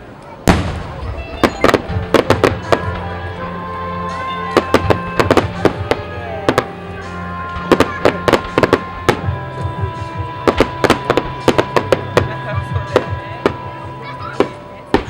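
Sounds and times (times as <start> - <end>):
fireworks bangs: 0.4 - 15.0
music with held notes: 0.5 - 15.0.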